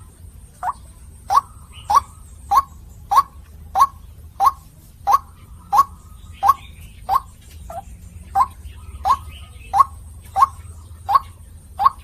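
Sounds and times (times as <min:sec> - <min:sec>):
bird calling sharp notes: 0:00.6 - 0:12.0.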